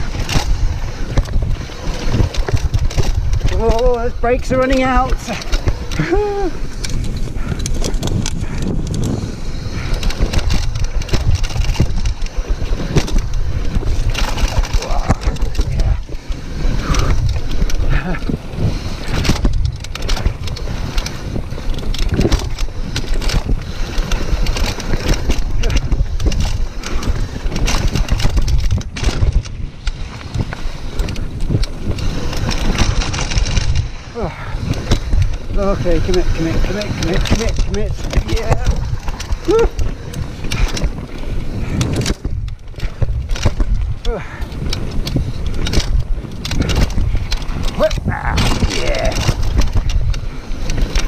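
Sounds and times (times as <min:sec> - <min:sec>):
bike rattling and clattering: 0:00.0 - 0:51.0
tyres rumbling over dirt: 0:00.0 - 0:51.0
wind buffeting microphone: 0:00.0 - 0:51.0.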